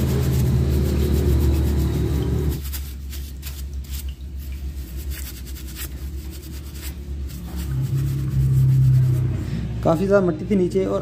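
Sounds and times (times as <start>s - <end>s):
steel wool scrubbing metal: 0.0s - 9.4s
low steady hum: 0.0s - 11.0s.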